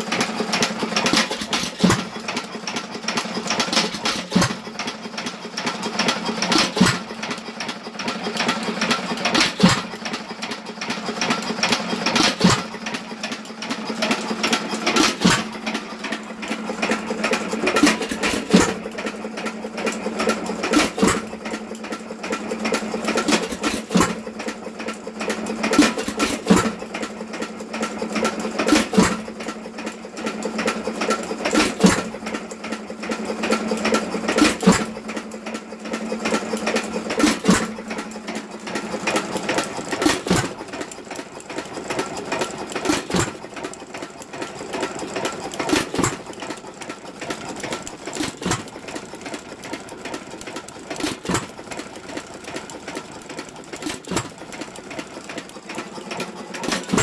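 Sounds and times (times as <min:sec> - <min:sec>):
engine clattering: 0:00.0 - 0:57.0.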